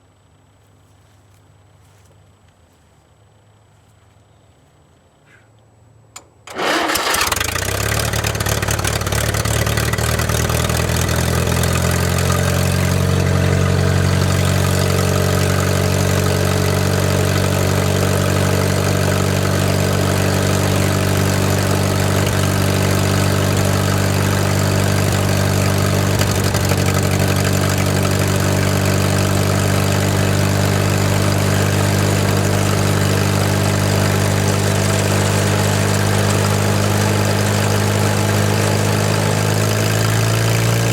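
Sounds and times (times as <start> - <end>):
welder engine starting and running: 6.2 - 40.9.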